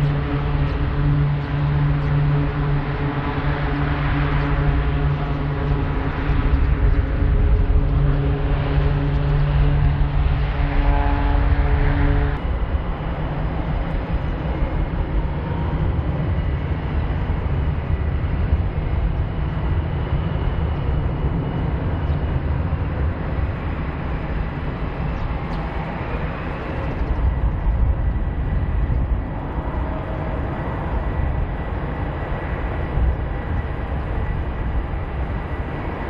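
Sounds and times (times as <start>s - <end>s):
jet engines rumbling with whine: 0.0s - 36.0s.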